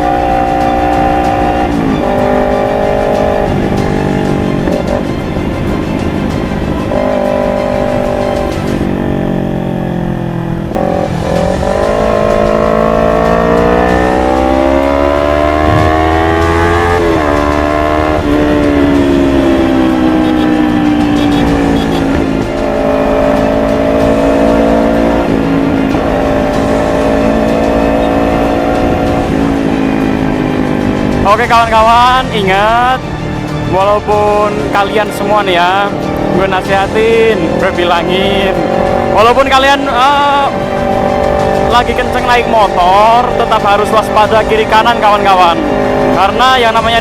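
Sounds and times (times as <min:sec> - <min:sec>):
motorcycle engine revving: 0:00.0 - 0:32.4, 0:34.4 - 0:47.0.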